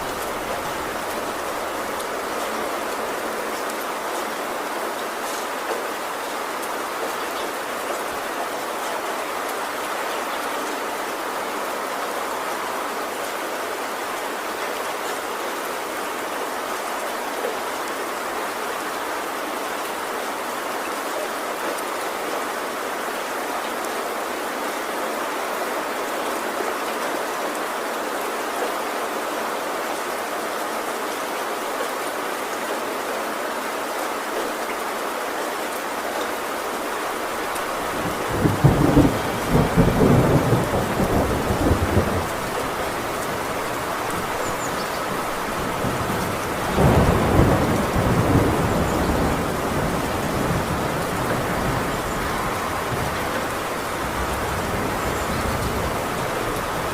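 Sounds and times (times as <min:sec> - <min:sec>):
heavy rain on a tin roof: 0:00.0 - 0:56.9.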